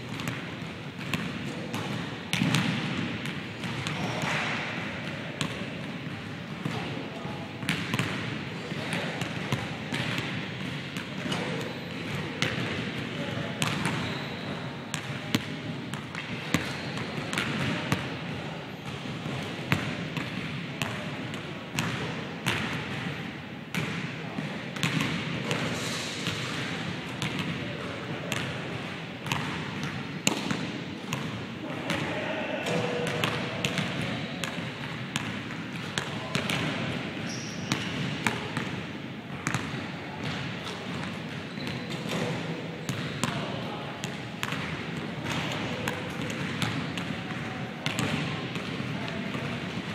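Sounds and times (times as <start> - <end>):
basketballs bouncing on wood floor: 0.0 - 6.9, 7.6 - 25.6, 26.3 - 27.6, 28.3 - 32.0, 32.9 - 43.4, 44.0 - 49.9.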